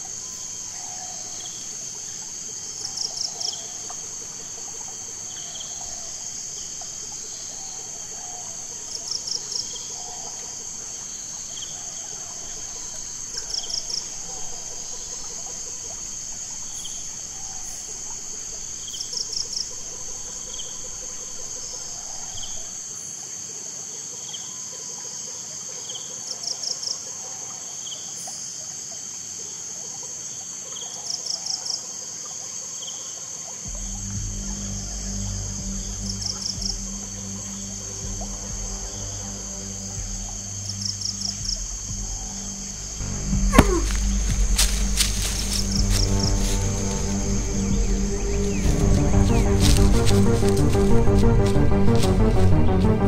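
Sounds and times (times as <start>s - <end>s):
insect chirp pulses: 0.0s - 53.0s
insects chorus: 0.0s - 53.0s.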